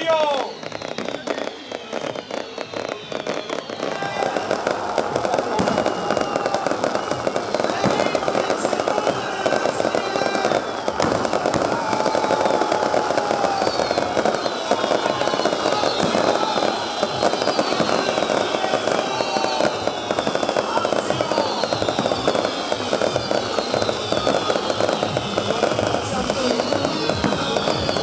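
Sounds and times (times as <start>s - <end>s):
fireworks crackling: 0.0s - 28.0s
fireworks whistles gliding down: 0.0s - 28.0s.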